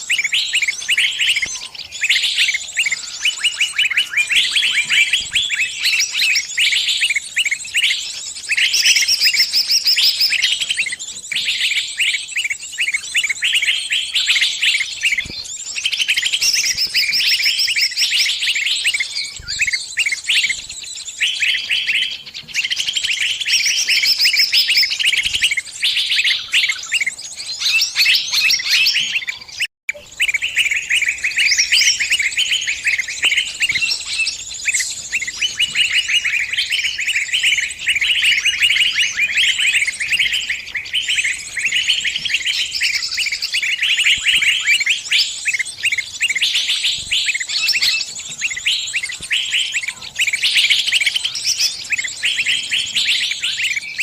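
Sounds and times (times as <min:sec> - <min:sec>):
small bird distress chirping: 0:00.0 - 0:54.0.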